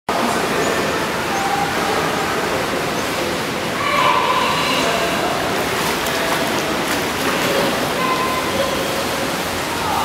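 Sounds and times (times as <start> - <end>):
rushing water: 0.1 - 10.0.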